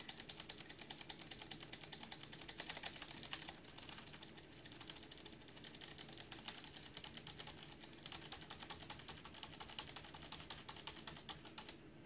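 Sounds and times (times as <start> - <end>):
rapid irregular clicking: 0.0 - 11.8
steady low hum: 0.0 - 12.0.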